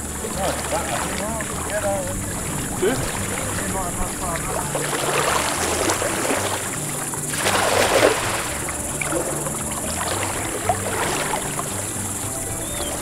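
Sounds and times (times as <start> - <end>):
cast net splashing into water: 0.0 - 13.0
low steady hum: 0.0 - 13.0.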